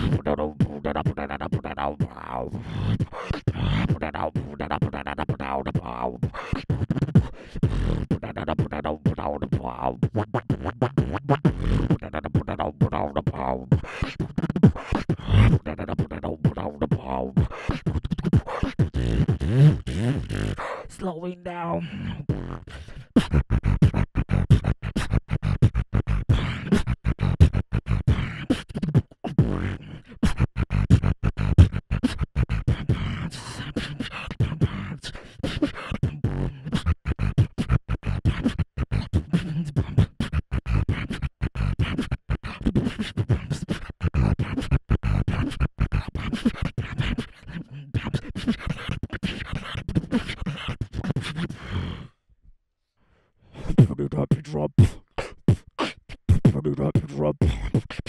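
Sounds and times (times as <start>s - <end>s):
person beatboxing: 0.0s - 52.2s, 53.5s - 58.0s.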